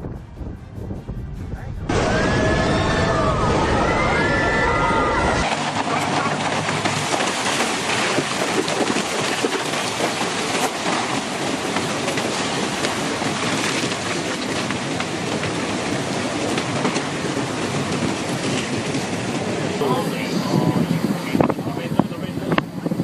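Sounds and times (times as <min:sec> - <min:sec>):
heavy rain rushing: 0:01.9 - 0:22.3.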